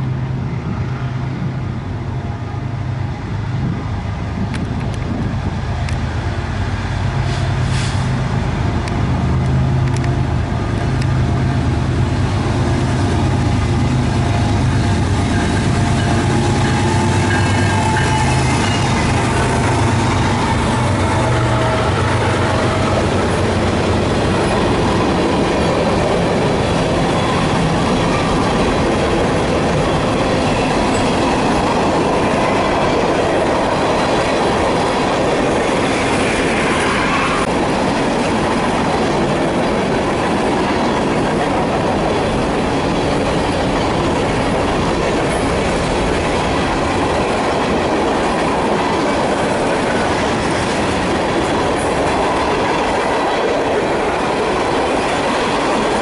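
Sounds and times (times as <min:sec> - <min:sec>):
diesel locomotive engine drone: 0:00.0 - 0:56.0
train wheels clattering on rail: 0:07.0 - 0:56.0.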